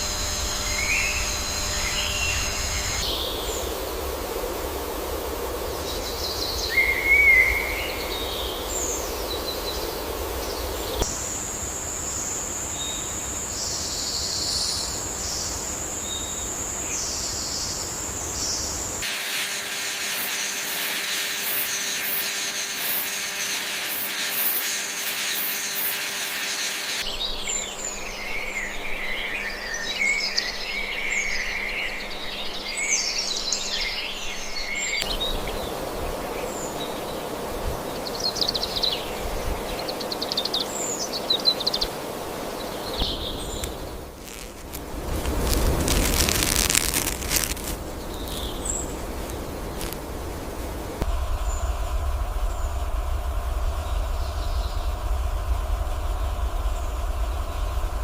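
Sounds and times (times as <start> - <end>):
high-pitched whine: 0.0 - 41.9, 42.6 - 58.0
dense high buzz: 0.0 - 58.0.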